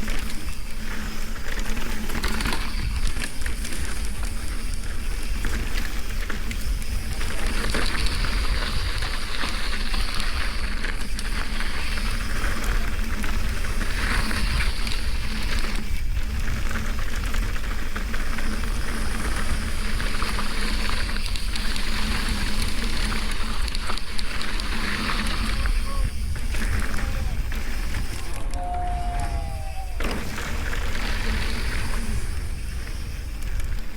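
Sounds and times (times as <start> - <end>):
bike rattling: 0.0 - 33.9
wind rumbling on microphone: 0.0 - 33.9.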